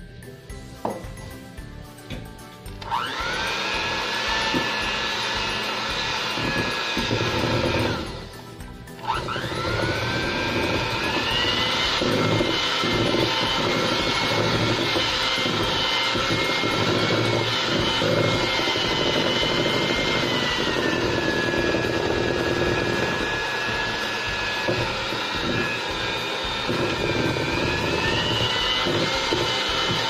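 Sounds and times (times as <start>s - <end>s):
electric hand mixer whining: 2.1s - 30.0s.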